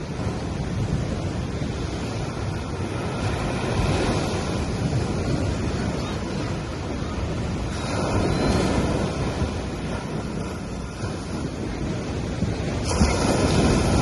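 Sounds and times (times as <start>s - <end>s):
waves washing onto beach: 0.0s - 14.0s
wind on microphone: 0.0s - 14.0s.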